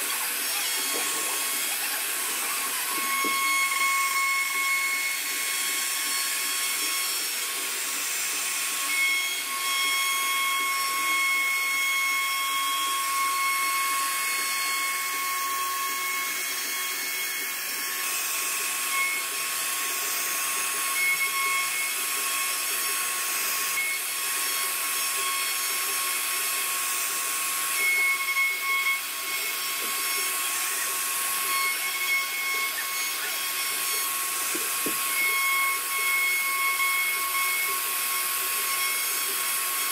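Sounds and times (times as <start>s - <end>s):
hiss of bit cutting wood: 0.0s - 39.9s
router spindle whine: 0.0s - 39.9s.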